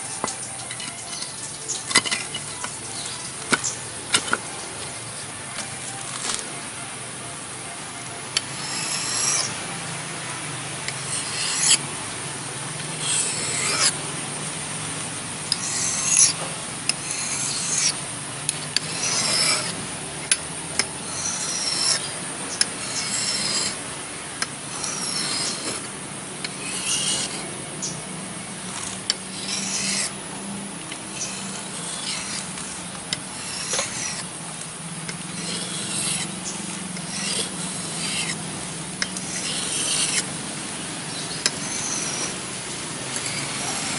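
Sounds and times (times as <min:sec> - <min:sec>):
hatchet blade scraping on abrasive: 0:00.0 - 0:06.4, 0:08.3 - 0:09.7, 0:10.8 - 0:12.0, 0:12.7 - 0:14.6, 0:15.4 - 0:43.9.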